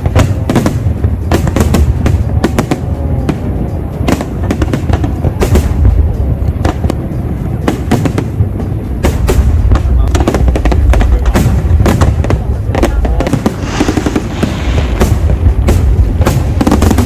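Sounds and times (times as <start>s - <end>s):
crowd voices: 0.0s - 17.0s
fireworks bangs: 0.0s - 17.0s
low rumble: 0.0s - 17.0s.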